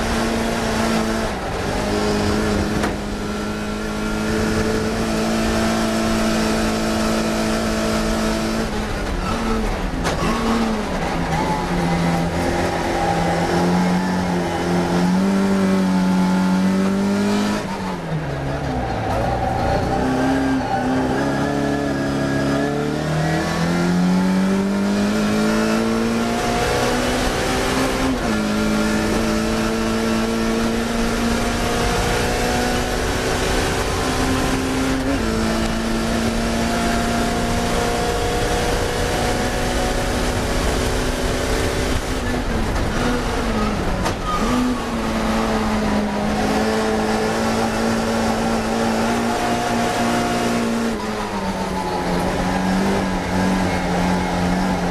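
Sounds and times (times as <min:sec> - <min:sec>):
racing car engine revving high: 0:00.0 - 0:54.9.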